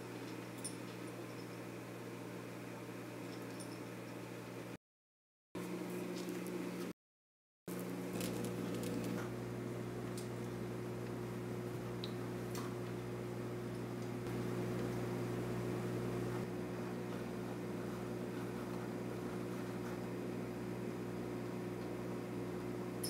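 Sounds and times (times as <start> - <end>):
aquarium equipment humming: 0.0 - 4.8, 7.7 - 23.0.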